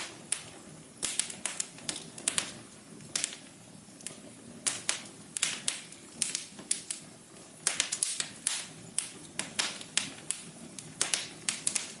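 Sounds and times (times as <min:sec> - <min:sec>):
low rumble of burning: 0:00.0 - 0:12.0
wood fire crackling and popping: 0:00.0 - 0:12.0.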